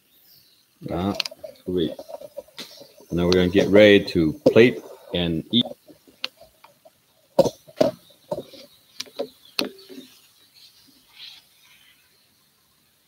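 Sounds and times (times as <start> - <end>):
faint rustling: 0.8 - 12.2.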